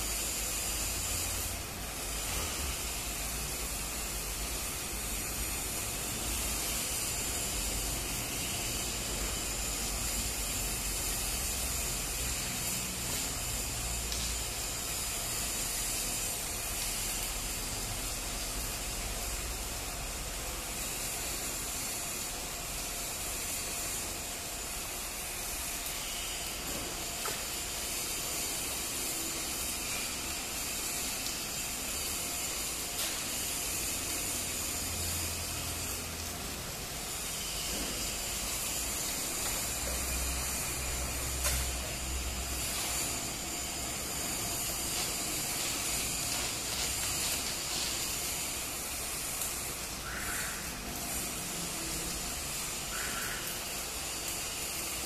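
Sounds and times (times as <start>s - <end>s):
electric arc welding hiss: 0.0s - 55.0s
welding arc crackles: 0.0s - 55.0s.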